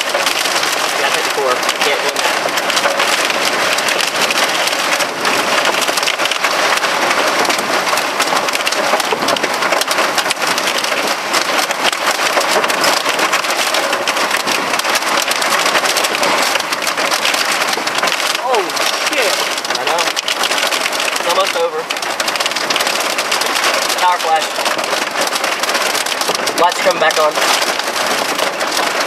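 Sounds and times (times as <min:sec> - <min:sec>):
heavy rain pelting a car: 0:00.0 - 0:29.0.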